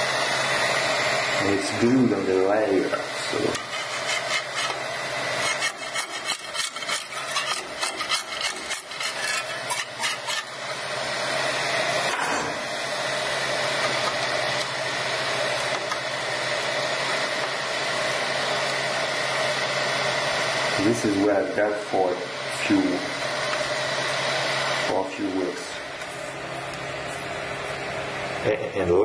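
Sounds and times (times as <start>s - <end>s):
printer fans whirring: 0.0s - 29.0s.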